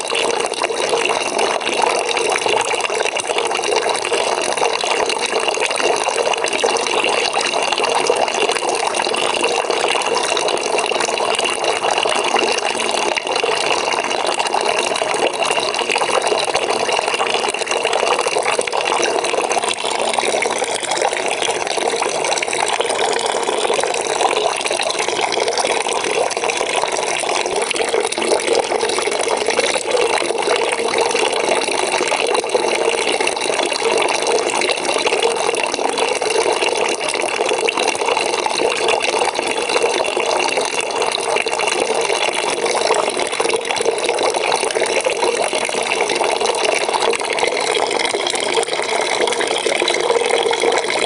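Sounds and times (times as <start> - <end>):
tap water running into bucket: 0.0 - 51.0.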